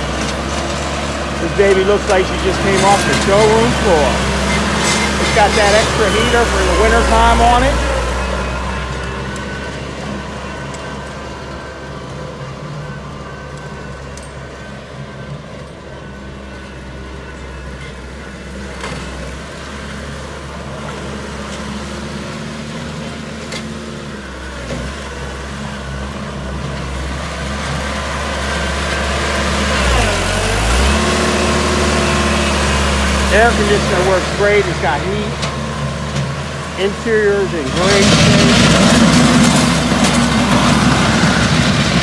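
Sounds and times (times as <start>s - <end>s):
tractor diesel engine idling: 0.0s - 42.0s.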